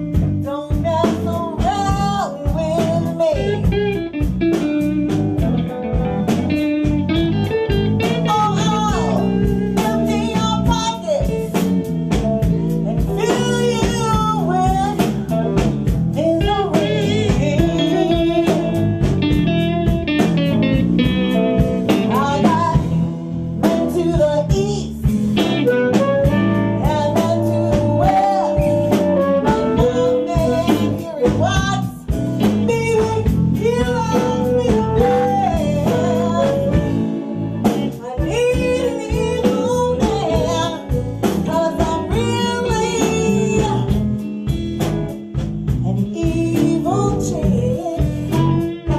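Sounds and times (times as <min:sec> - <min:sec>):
woman singing into a microphone: 0:00.0 - 0:04.6, 0:06.1 - 0:19.7, 0:21.6 - 0:44.6, 0:45.7 - 0:48.9
electric guitar: 0:00.0 - 0:48.9
drum beat: 0:00.1 - 0:46.6.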